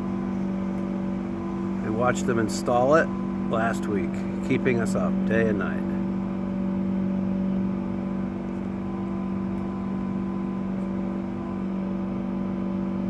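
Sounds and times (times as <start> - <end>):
chiller droning with low hum: 0.0 - 13.0.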